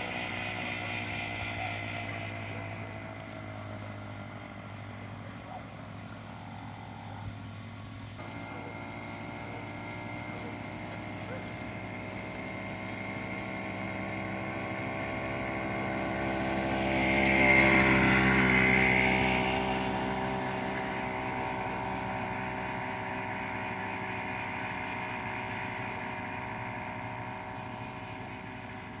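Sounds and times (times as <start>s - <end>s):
small petrol engine running: 0.0s - 29.0s.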